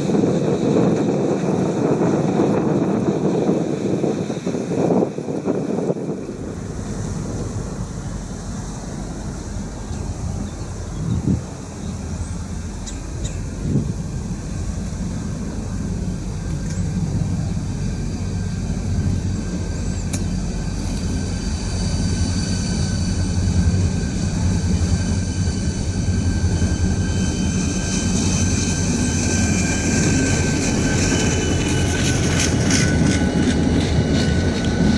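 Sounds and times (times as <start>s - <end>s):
high whine: 0.0s - 34.9s
train engine rumble: 0.0s - 34.9s.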